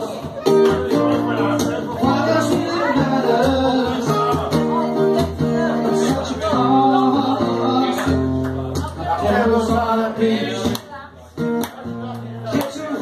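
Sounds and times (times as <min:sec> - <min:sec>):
man singing into a microphone: 0:00.0 - 0:10.8, 0:12.0 - 0:13.0
acoustic guitar strumming: 0:00.0 - 0:13.0.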